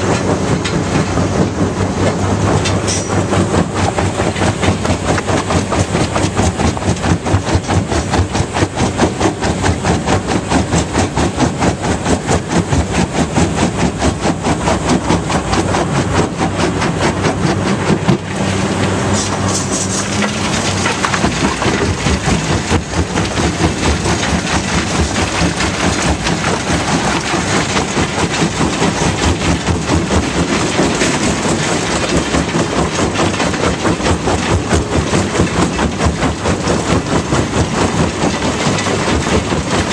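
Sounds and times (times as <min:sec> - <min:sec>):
engine drone: 0:00.0 - 0:39.9
rock rattling in crusher: 0:00.0 - 0:39.9.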